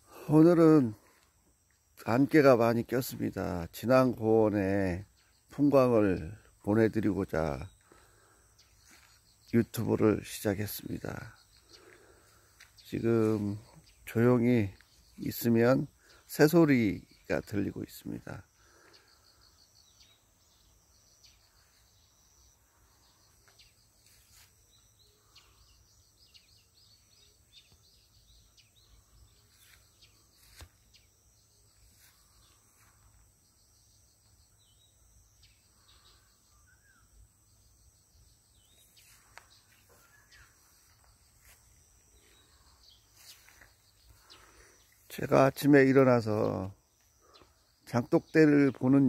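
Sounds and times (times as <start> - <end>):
faint birds chirping: 0.0 - 49.0
outdoor background hiss: 0.0 - 49.0.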